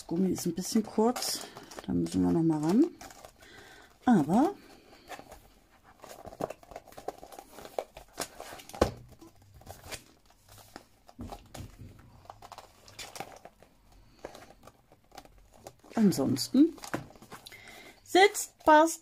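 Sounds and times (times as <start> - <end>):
paper and cover rustling: 0.0 - 19.0.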